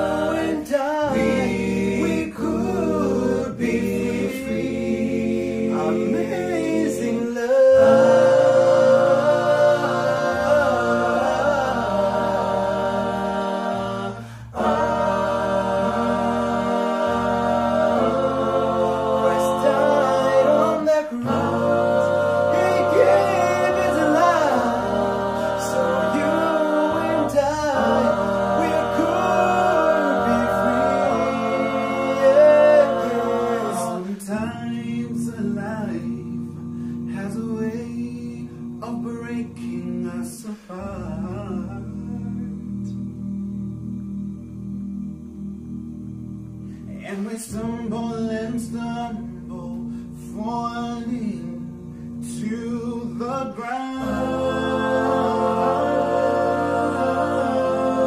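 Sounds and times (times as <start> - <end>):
male a cappella group singing: 0.0 - 58.0.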